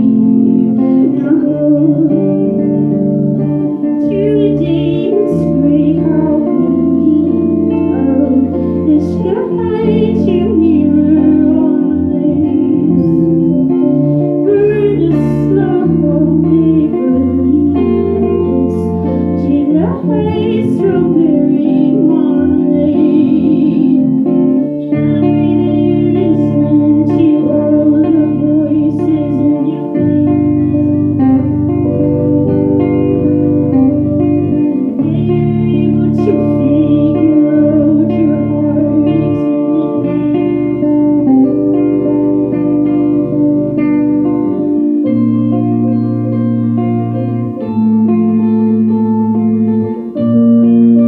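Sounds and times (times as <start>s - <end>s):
guitar: 0.0s - 51.0s
person singing: 0.0s - 51.0s.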